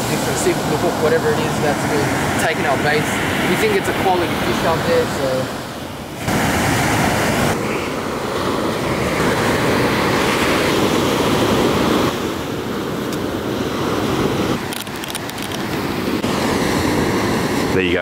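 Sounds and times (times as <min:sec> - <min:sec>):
ocean surf washing on sand: 0:00.0 - 0:18.0.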